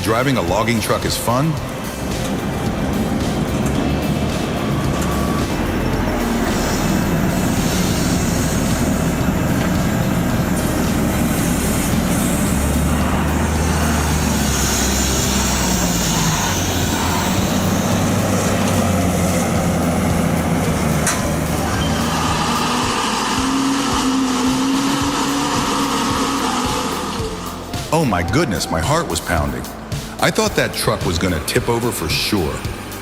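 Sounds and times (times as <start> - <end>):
diesel truck engine running: 0.0 - 33.0
road and wind noise: 0.0 - 33.0.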